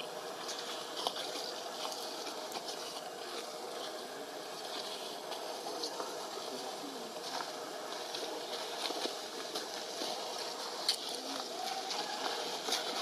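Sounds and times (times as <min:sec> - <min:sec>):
faint crackles and rustles: 0:00.0 - 0:13.0.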